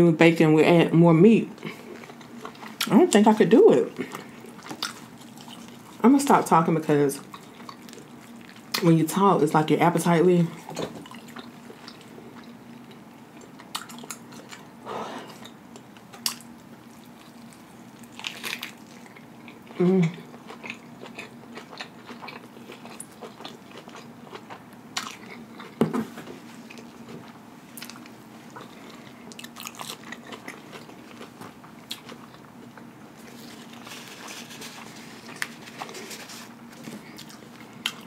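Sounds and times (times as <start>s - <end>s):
person chewing food: 1.6s - 2.9s, 4.0s - 6.0s, 7.2s - 8.8s, 10.6s - 38.0s.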